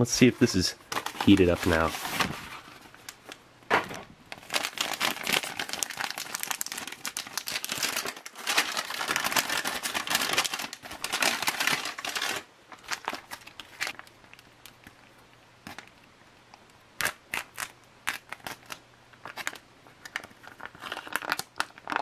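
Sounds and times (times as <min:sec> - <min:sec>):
plastic and foil crinkling: 0:00.2 - 0:03.4, 0:04.3 - 0:15.0, 0:17.0 - 0:22.0.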